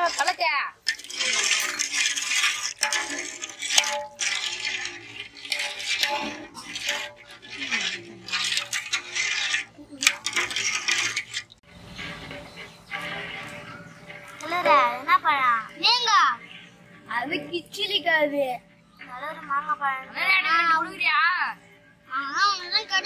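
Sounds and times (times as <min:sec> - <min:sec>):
metal ladle scraping a pot: 0:00.0 - 0:23.0.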